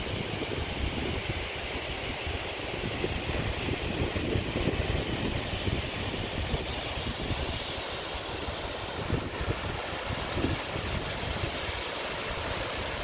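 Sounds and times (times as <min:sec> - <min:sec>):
wind buffeting microphone: 0:00.0 - 0:07.7, 0:08.9 - 0:11.8
waterfall rushing into pool: 0:00.0 - 0:13.0.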